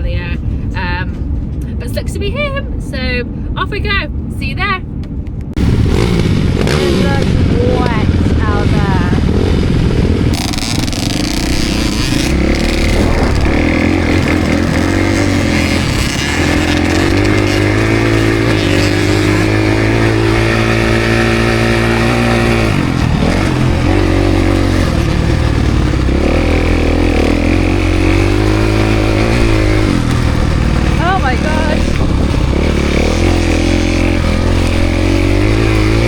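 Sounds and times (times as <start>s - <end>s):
motorcycle engine revving: 5.6s - 36.0s.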